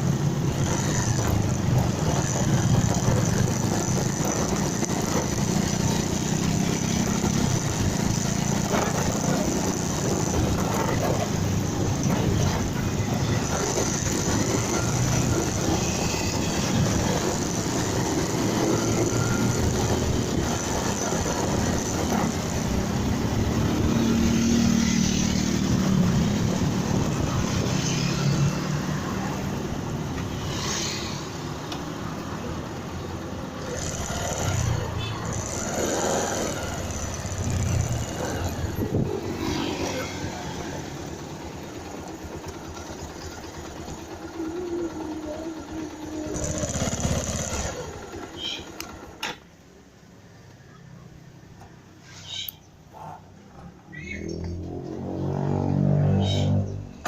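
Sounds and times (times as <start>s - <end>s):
motorcycle engine: 0.0s - 50.2s, 53.4s - 57.0s
wind and road noise: 0.0s - 57.0s.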